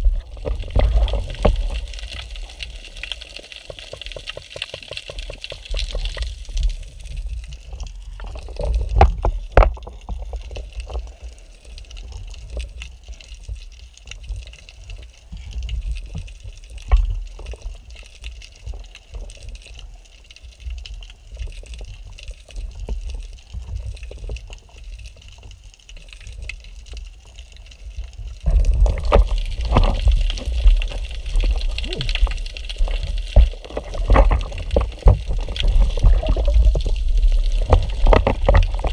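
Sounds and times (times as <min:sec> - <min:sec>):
water sloshing and bubbling: 0:00.0 - 0:38.9.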